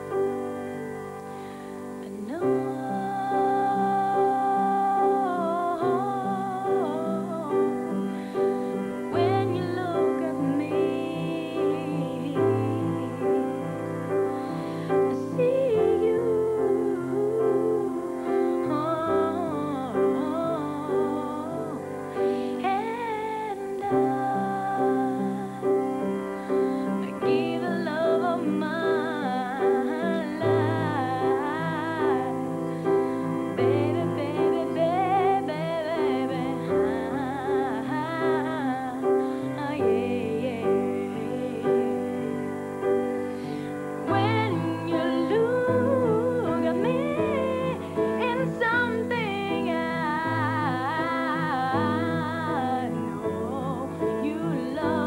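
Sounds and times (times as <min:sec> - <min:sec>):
woman singing with vibrato: 0:00.0 - 0:55.0.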